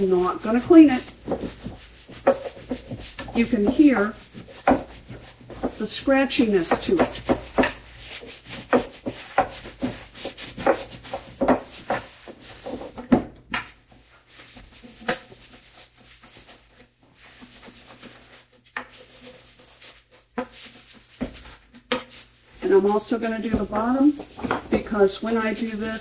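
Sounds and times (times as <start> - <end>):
scratchy rubbing on wood: 0.0 - 13.0, 14.0 - 26.0.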